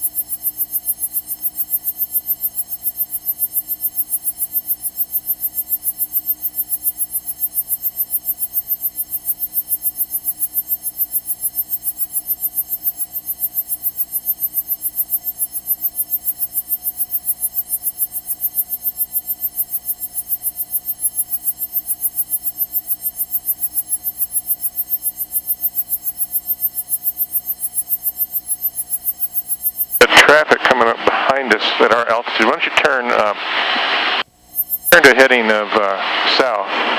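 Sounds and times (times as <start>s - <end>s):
electronic ticking and buzz: 0.0s - 33.3s, 34.2s - 36.6s.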